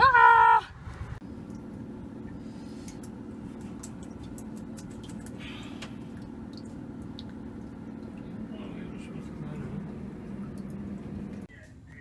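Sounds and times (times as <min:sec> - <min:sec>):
low mechanical hum: 0:00.1 - 0:12.0.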